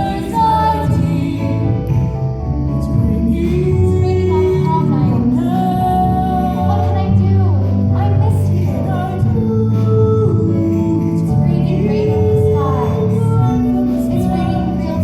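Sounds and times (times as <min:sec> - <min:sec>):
band backing: 0:00.0 - 0:15.0
woman singing pop ballad: 0:00.0 - 0:15.0.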